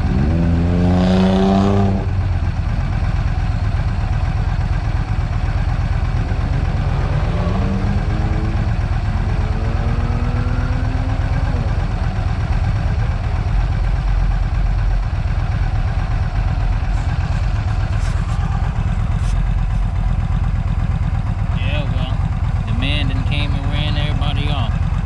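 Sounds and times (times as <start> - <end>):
vehicle engine accelerating: 0.0 - 25.0.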